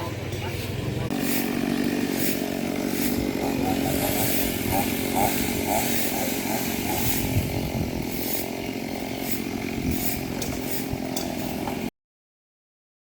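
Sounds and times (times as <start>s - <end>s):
chainsaw cutting wood: 1.1s - 11.9s.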